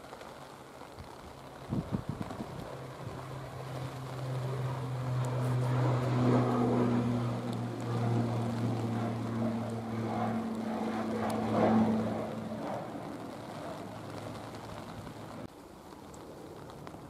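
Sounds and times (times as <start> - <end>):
propeller plane drone: 0.0 - 17.0.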